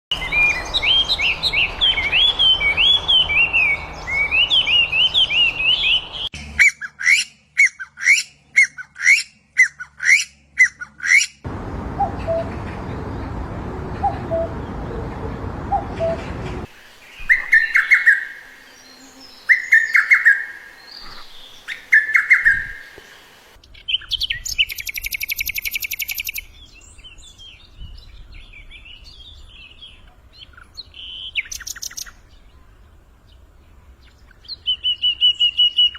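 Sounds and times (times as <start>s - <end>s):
songbirds singing: 0.1s - 35.9s.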